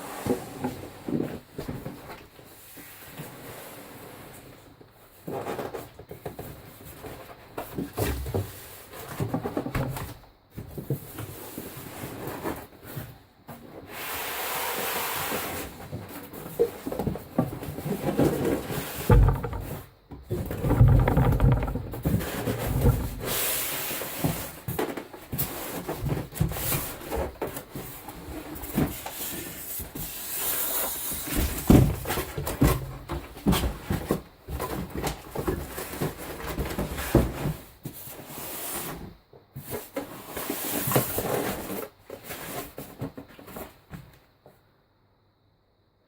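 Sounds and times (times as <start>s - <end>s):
cardboard box rustling and scraping: 0.0s - 43.8s.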